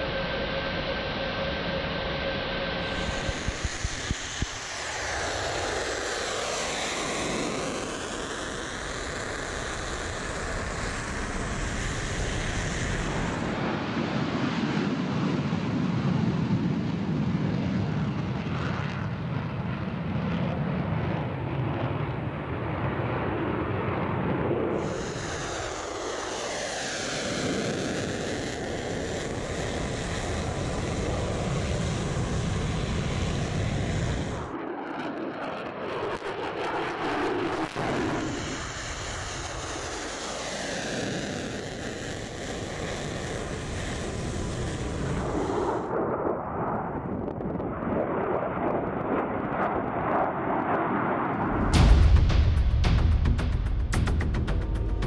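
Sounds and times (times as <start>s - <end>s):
fighter jet taking off: 0.0s - 55.0s.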